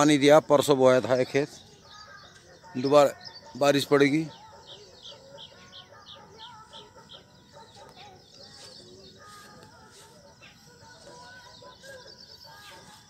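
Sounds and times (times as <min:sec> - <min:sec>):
scattered bird calls: 0:00.0 - 0:13.0.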